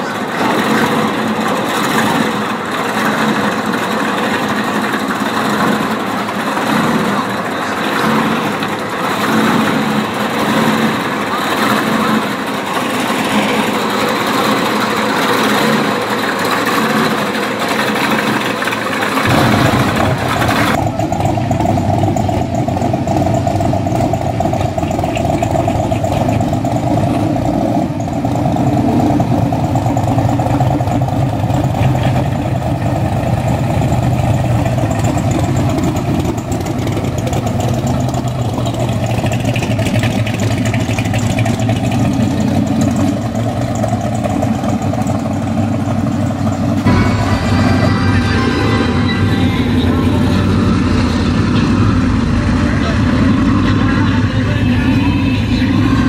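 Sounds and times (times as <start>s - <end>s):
car engines idling and revving: 0.0s - 56.0s.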